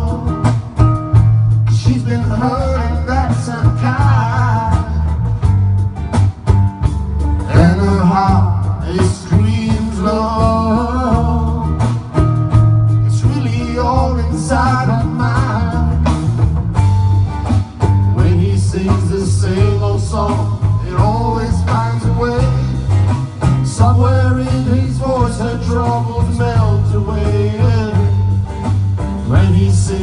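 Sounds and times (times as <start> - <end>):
live band music: 0.0 - 30.0
sliding lead melody: 0.0 - 30.0.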